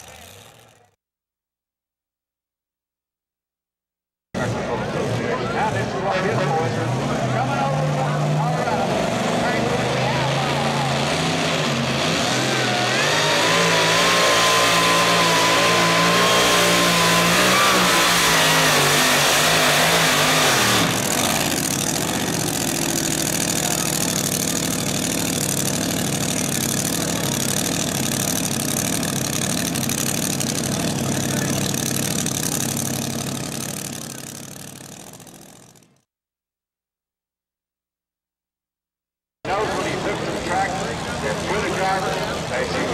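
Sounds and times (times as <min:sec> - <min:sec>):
truck engine at full throttle: 0:00.0 - 0:01.0, 0:04.4 - 0:36.0, 0:39.5 - 0:42.9.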